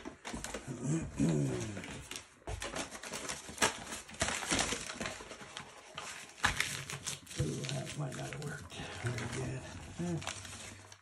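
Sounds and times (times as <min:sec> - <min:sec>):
plastic sheet crinkling: 0:00.0 - 0:11.0.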